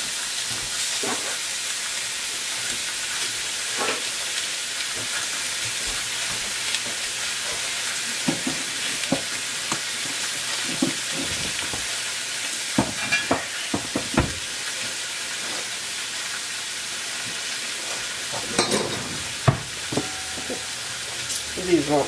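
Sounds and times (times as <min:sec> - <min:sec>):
squid sizzling in a skillet: 0:00.0 - 0:22.0.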